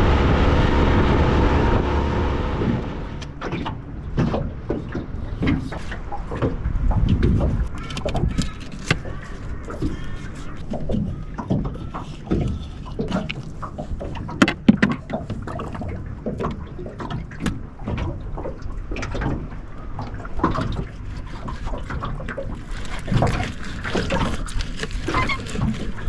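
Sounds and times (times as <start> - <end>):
wind and water rushing: 0.0 - 26.0.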